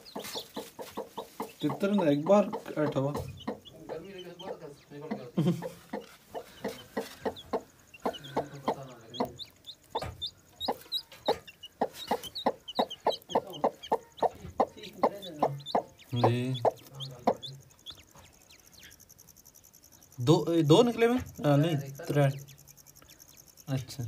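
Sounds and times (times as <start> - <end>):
hen clucking: 0.0 - 23.6
chicks peeping: 0.0 - 24.0.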